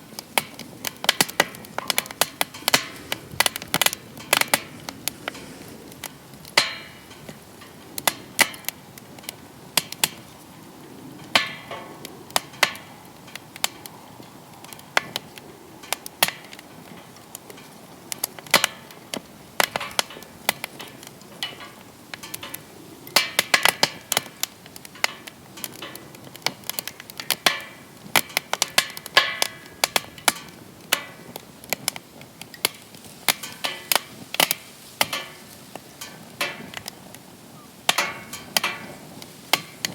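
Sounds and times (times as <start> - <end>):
faint steady hiss: 0.0 - 39.9
wood fire crackling: 0.0 - 39.9.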